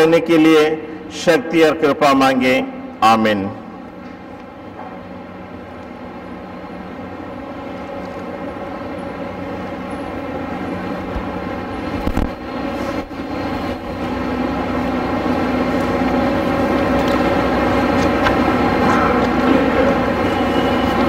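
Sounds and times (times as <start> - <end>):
droning hum of held tones: 0.0 - 21.0.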